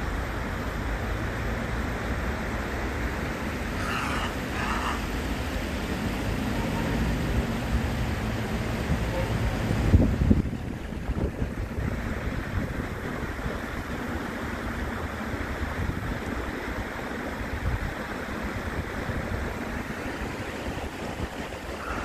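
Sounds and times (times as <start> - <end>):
stream running over stones: 0.0 - 22.0
wind rumbling on microphone: 0.0 - 22.0.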